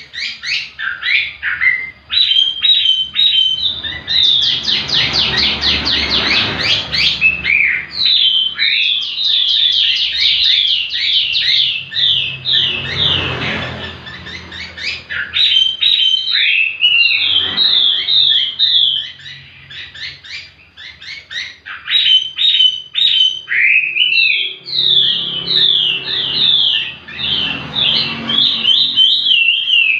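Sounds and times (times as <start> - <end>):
bird singing whistles: 0.0 - 29.9.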